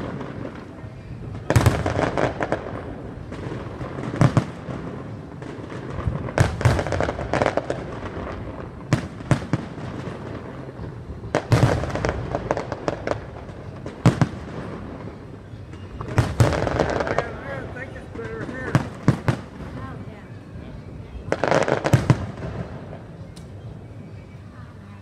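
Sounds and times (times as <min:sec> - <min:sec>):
firework shells booming: 0:00.0 - 0:20.0, 0:21.2 - 0:23.6
firework crackling: 0:00.0 - 0:25.0.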